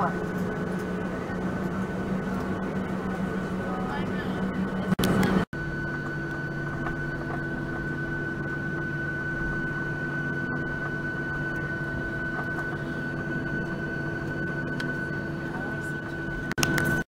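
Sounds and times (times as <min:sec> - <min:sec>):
airliner engines humming: 0:00.0 - 0:17.0
high-pitched engine whine: 0:00.0 - 0:17.0.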